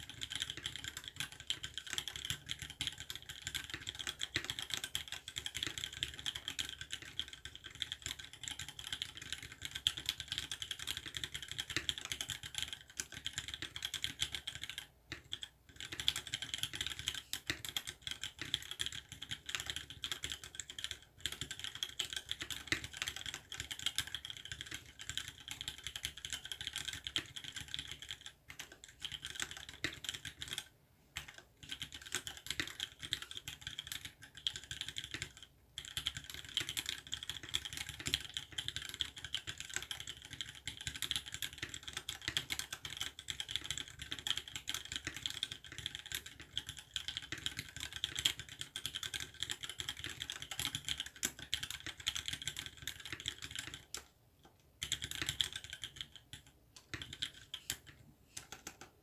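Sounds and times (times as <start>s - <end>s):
fast mechanical keyboard typing: 0.0s - 59.0s.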